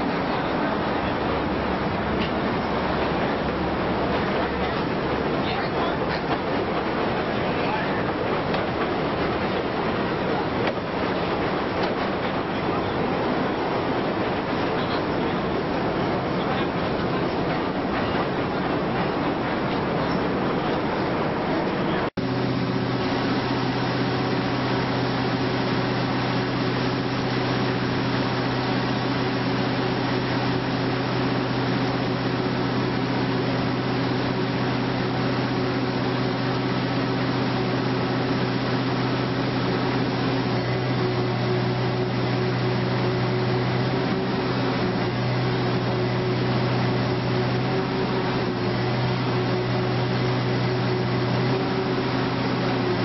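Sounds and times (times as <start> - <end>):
electrical hum with hiss: 0.0 - 53.0.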